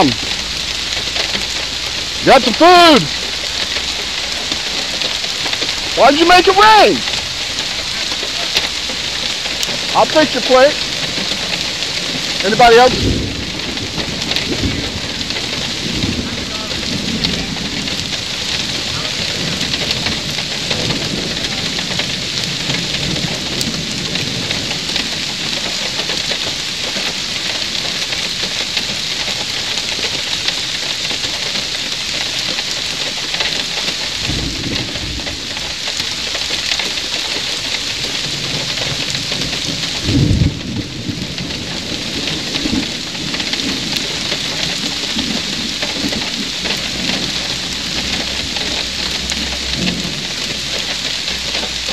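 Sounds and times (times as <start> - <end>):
low rumbles: 0.0 - 51.9
steady rain falling: 0.0 - 51.9.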